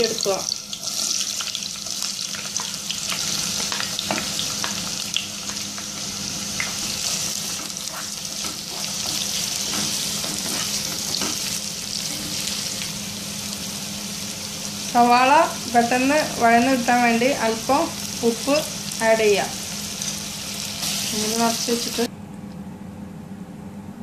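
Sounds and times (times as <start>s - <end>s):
onions sizzling in oil: 0.0s - 22.1s.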